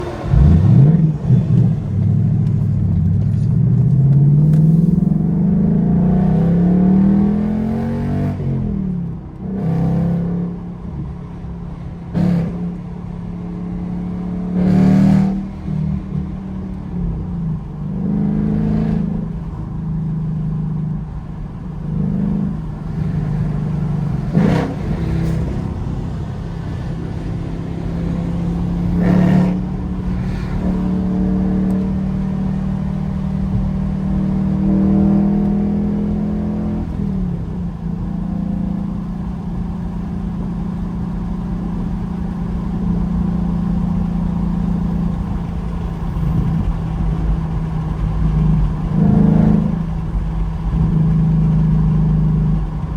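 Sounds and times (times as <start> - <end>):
car engine and exhaust accelerating: 0.0 - 52.9.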